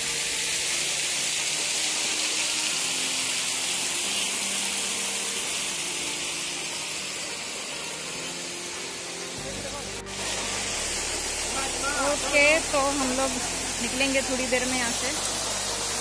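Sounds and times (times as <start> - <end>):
waterfall and stream rushing: 0.0 - 16.0.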